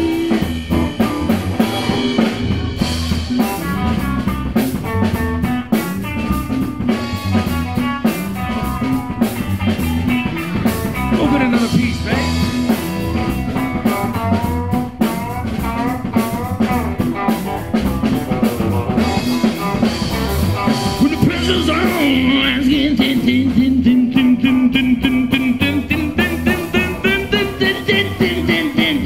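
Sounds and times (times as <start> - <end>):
drum kit: 0.0 - 29.0
electric bass: 0.0 - 29.0
electric guitar lead: 0.0 - 29.0.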